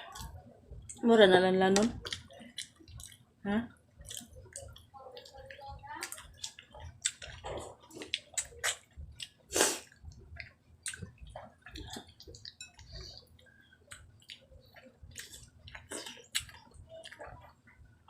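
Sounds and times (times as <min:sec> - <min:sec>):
wet chewing and lip smacks: 0:01.8 - 0:03.2, 0:04.0 - 0:17.3.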